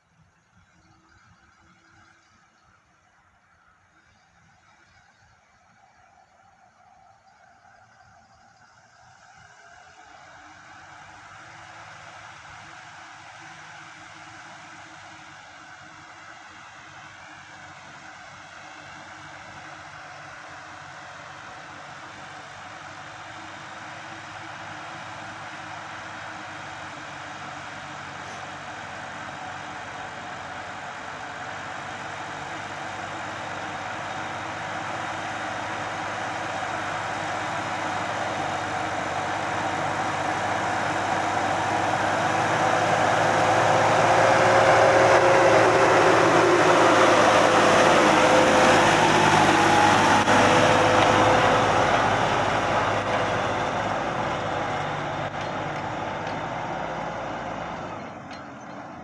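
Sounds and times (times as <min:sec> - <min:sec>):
steady engine whine: 0:00.2 - 0:59.0
tractor diesel engine under load: 0:07.7 - 0:59.0.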